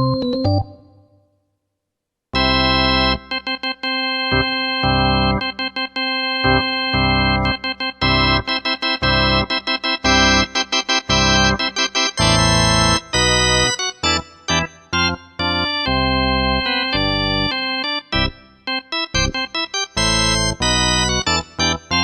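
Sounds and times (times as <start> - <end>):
keyboard organ chords: 0.0 - 1.2, 2.4 - 22.0.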